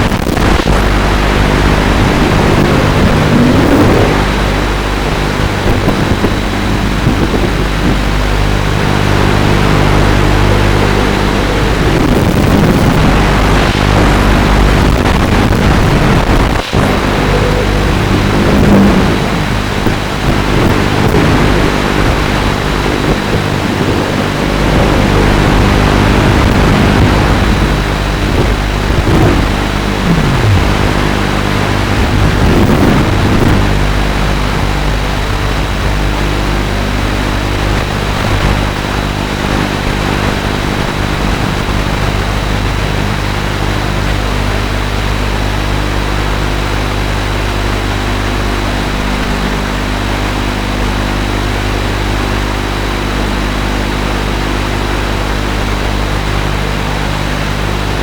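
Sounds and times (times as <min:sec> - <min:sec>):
drone propellers whining hum: 0:00.0 - 0:58.0.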